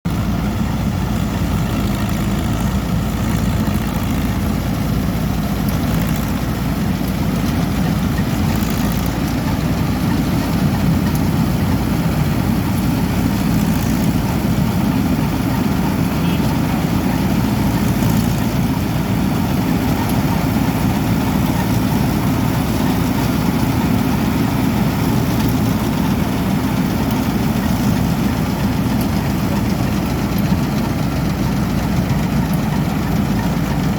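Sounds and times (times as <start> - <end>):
diesel engine droning: 0.1 - 33.9.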